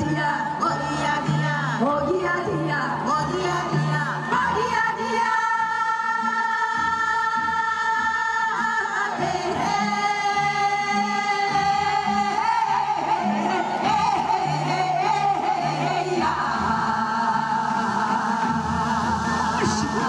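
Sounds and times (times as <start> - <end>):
amplified backing music: 0.0 - 20.0
women singing in unison: 0.0 - 20.0.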